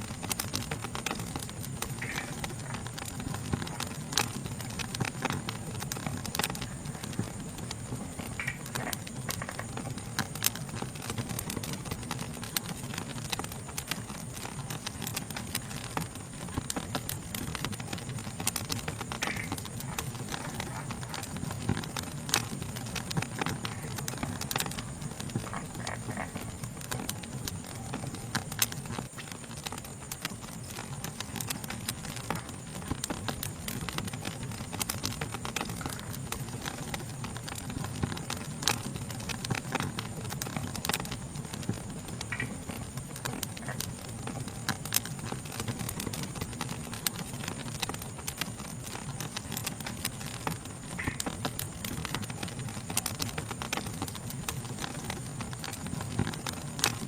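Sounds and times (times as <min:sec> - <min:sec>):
insect chorus: 0:00.0 - 0:57.0
wood fire crackling and popping: 0:00.0 - 0:57.0.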